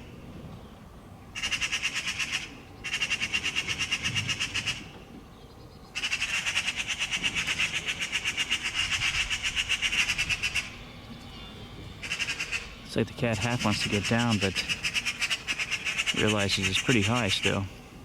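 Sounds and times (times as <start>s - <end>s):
magpies chattering alarm rattle: 1.3s - 4.9s, 5.8s - 17.9s.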